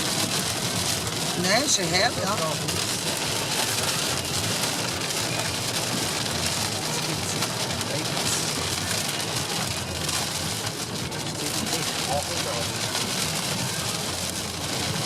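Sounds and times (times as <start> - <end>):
heavy rain beating on car: 0.0 - 15.0.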